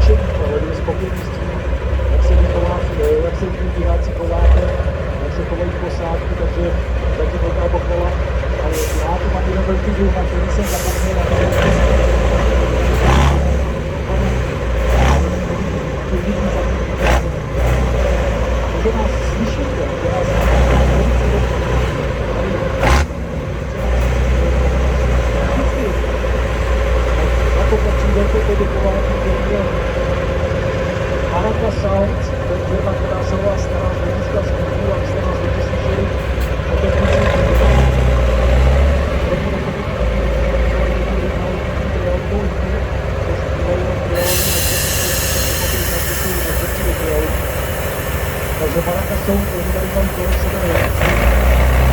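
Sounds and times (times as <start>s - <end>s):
truck engine rumbling: 0.0s - 51.9s.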